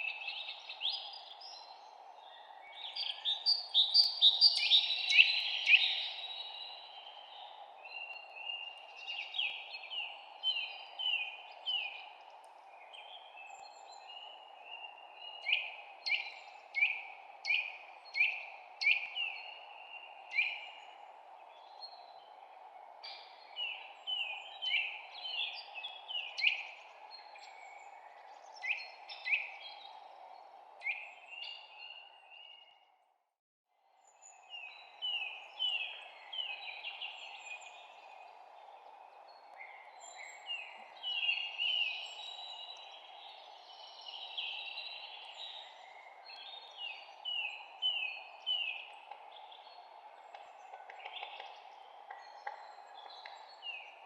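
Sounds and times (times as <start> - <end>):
songbirds chirping: 0.0 - 33.1, 33.9 - 54.0.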